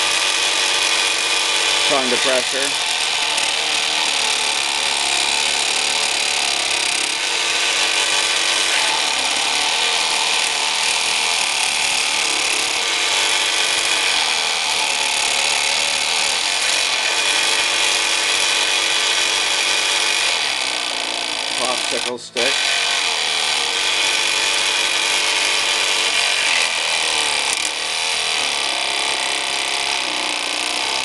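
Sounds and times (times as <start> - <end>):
small electric jigsaw sawing wood: 0.0 - 31.0.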